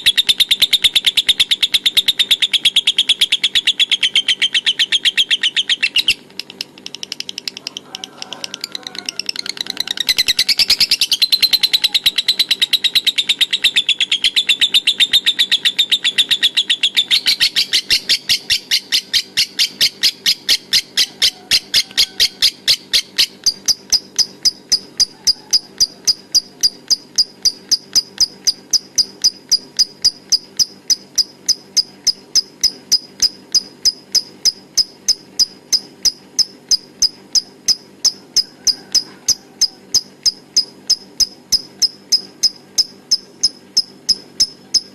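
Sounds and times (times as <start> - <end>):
lovebird rapid high chirps: 0.0 - 7.8, 8.5 - 44.9.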